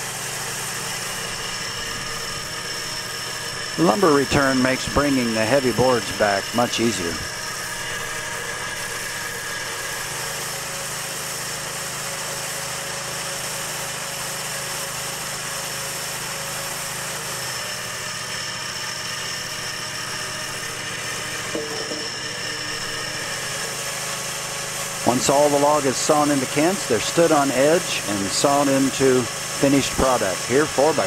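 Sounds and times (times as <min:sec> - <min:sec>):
chainsaw mill engine running: 0:00.0 - 0:31.0.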